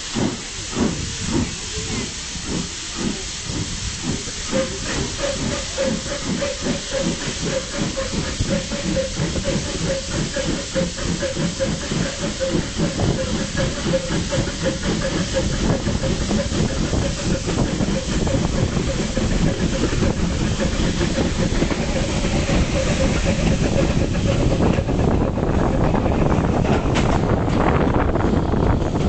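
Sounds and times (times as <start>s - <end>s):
steam hiss and rushing air: 0.0s - 29.0s
train carriage rumbling on rails: 0.0s - 29.0s.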